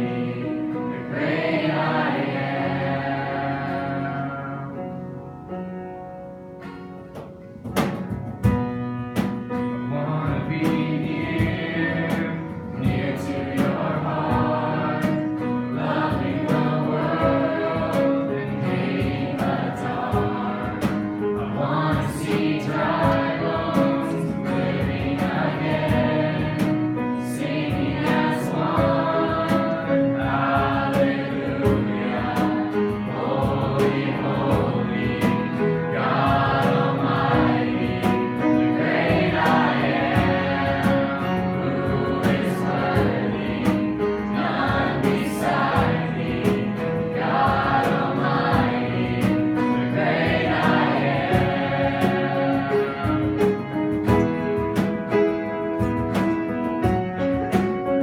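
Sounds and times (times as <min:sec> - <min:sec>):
voices singing: 0:00.0 - 0:04.9, 0:09.9 - 0:54.9
worship band playing: 0:00.0 - 0:05.8, 0:06.6 - 0:58.0.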